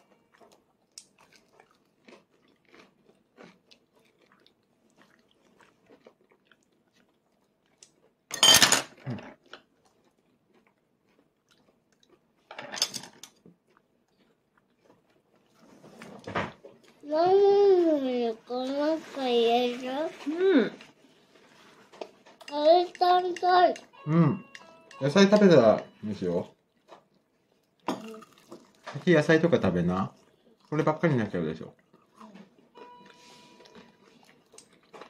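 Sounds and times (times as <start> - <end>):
toddler chewing: 0.0 - 8.3, 9.0 - 12.4, 13.2 - 25.0, 26.2 - 35.0.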